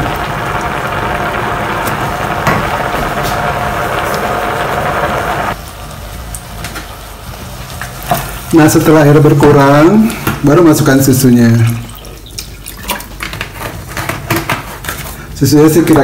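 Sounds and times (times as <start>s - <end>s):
saucepan boiling and bubbling: 0.0s - 16.0s.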